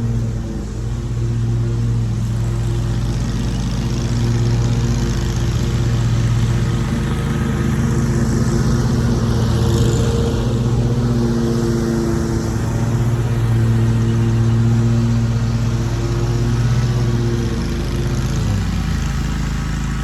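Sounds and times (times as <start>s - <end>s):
mower engine running: 0.0s - 20.0s.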